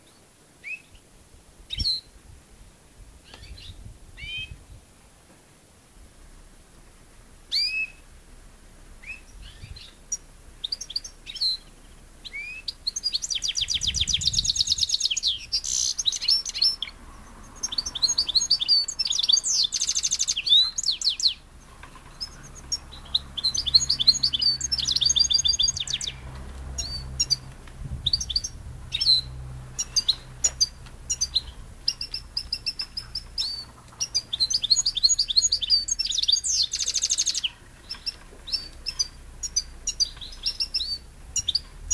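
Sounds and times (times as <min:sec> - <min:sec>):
songbirds chirping and trilling: 0:03.2 - 0:04.6, 0:06.2 - 0:41.9.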